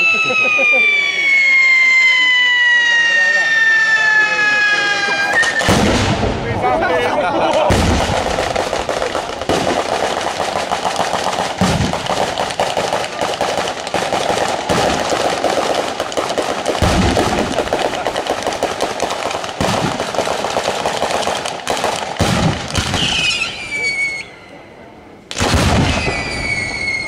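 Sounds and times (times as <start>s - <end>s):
heavy firework bangs: 0.0s - 24.2s, 25.3s - 27.0s
firecrackers crackling: 0.0s - 24.5s, 25.2s - 27.0s.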